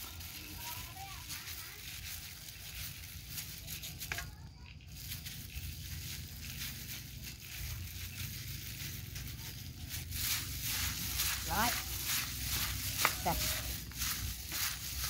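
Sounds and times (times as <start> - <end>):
moist shredded salad rustling: 0.0 - 15.0
plastic glove crinkling: 0.0 - 15.0.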